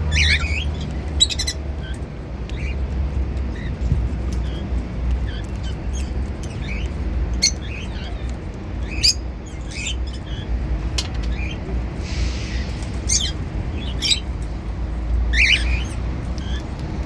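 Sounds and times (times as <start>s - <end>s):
cockatiels chirping: 0.1s - 11.6s, 13.0s - 14.3s, 15.3s - 16.9s.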